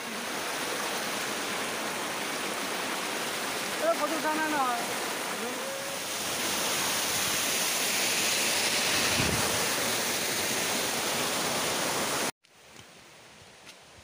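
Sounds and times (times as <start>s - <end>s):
water rushing over rocks: 0.0s - 12.3s.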